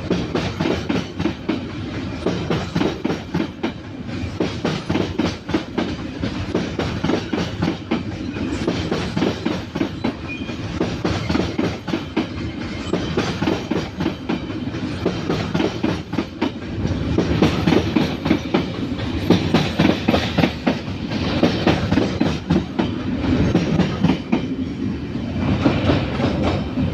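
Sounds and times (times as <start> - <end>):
wheels clacking over rail joints: 0.0 - 24.6, 25.4 - 26.9
train rumble: 0.0 - 26.9.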